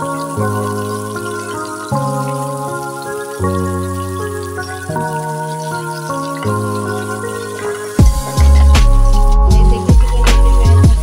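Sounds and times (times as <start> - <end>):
music of held chords: 0.0 - 11.0.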